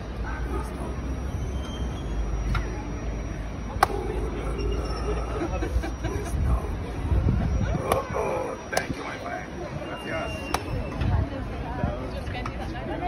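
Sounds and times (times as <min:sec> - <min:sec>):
low city rumble: 0:00.0 - 0:13.0
murmur of voices: 0:00.0 - 0:13.0.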